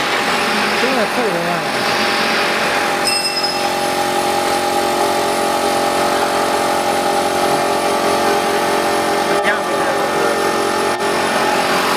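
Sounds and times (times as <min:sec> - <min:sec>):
cnc router machine whine: 0:00.0 - 0:11.9.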